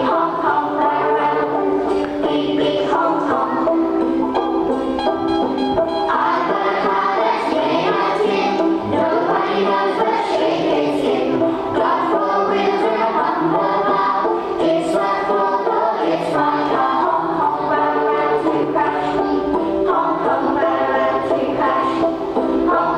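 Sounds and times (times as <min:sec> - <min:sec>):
children singing together: 0:00.0 - 0:22.9
instrumental accompaniment: 0:00.0 - 0:22.9.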